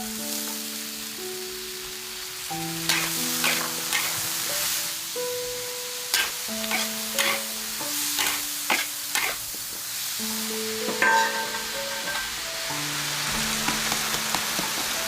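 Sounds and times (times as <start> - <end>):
food sizzling in a frying pan: 0.0 - 15.0
music with slow held notes: 0.0 - 15.0.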